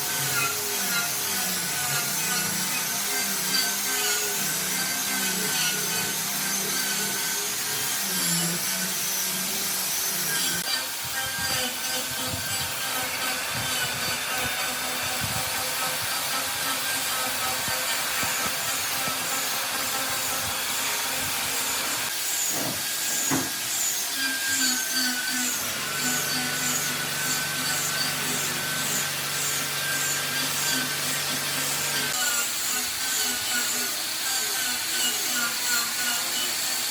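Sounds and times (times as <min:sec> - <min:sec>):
power tool grinding wood: 0:00.0 - 0:36.9.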